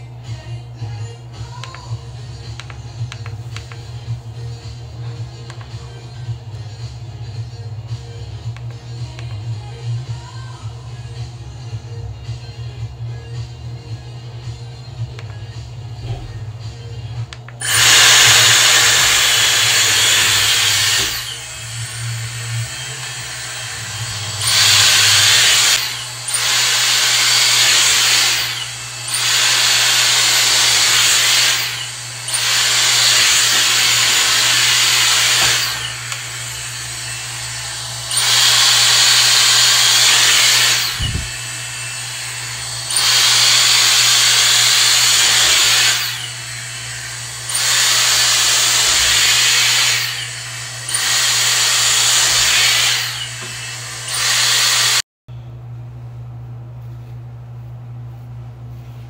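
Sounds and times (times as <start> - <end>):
hair dryer blowing air: 0.0 - 11.6, 12.2 - 55.1.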